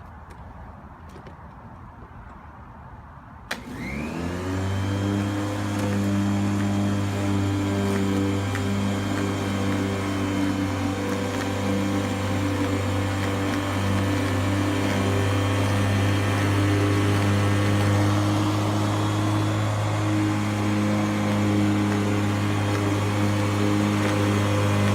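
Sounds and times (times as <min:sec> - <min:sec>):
lawn machine motor humming: 0:03.5 - 0:24.9.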